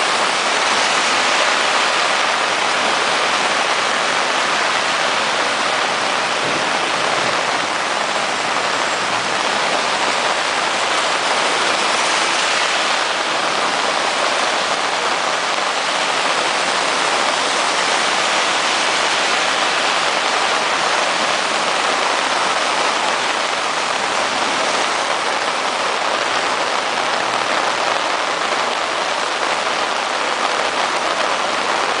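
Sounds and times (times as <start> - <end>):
heavy rain pattering: 0.0 - 32.0.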